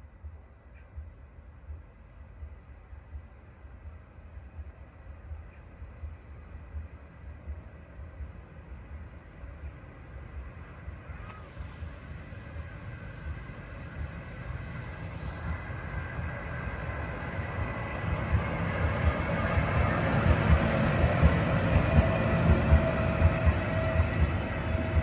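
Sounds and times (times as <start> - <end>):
train passing: 0.0 - 25.0
wheels rumbling on rails: 0.0 - 25.0.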